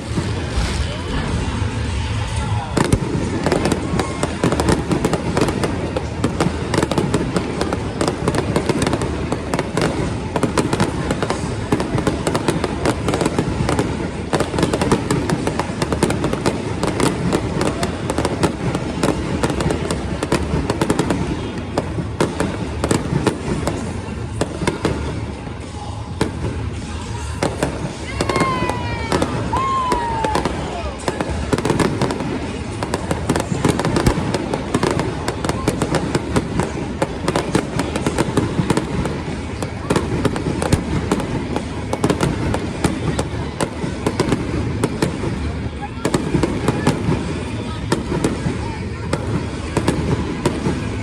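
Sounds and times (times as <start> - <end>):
fireworks crackling and banging: 0.0 - 51.0.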